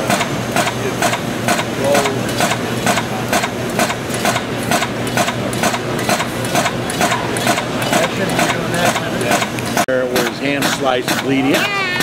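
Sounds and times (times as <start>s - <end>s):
cutter shearing metal clacks: 0.0s - 11.8s
steady machine hum: 0.0s - 12.0s.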